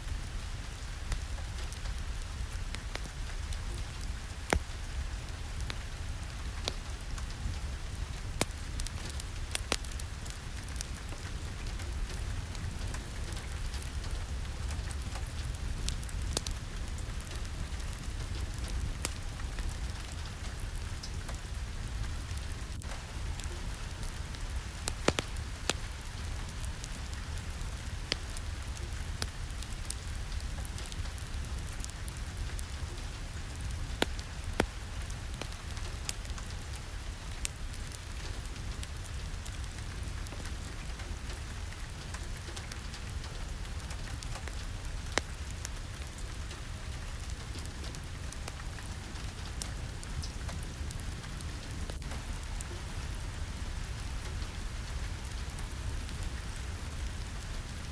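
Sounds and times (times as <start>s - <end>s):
steady rain: 0.0s - 57.9s.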